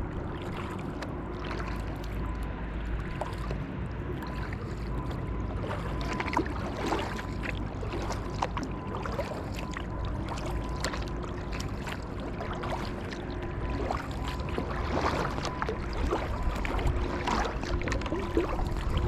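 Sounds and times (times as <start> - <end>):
paddle splashing water: 0.0 - 19.0
steady low rumble: 0.0 - 19.0
water lapping against hull: 0.0 - 19.0.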